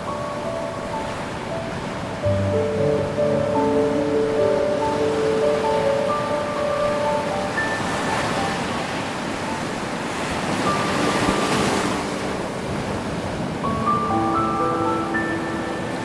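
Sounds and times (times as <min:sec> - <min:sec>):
waves washing onto beach: 0:00.0 - 0:16.0.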